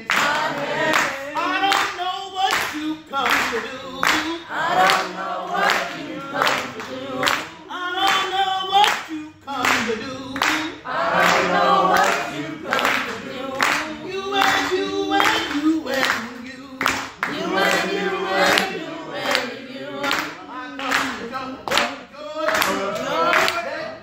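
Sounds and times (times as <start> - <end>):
hand claps on the beat: 0.0 - 23.6
congregation singing gospel song: 0.0 - 24.0.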